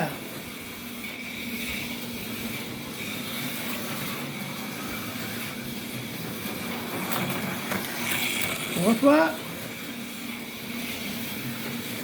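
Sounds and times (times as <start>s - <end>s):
wheels hissing on track: 0.2s - 12.0s.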